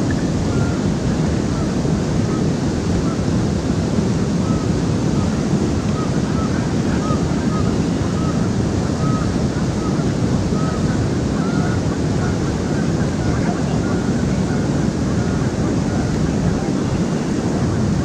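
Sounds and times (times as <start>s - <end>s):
faint bird calls: 0.1s - 3.3s, 4.4s - 18.0s.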